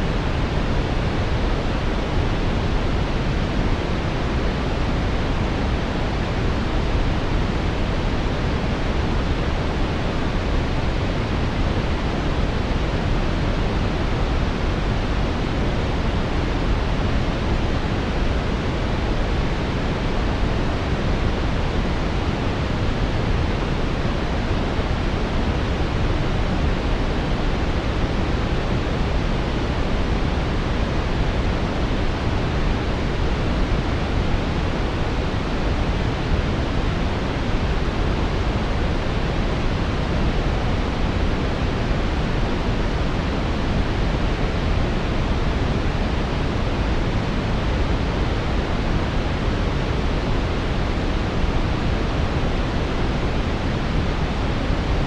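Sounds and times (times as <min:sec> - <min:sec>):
synthetic brown noise hiss: 0:00.0 - 0:55.0.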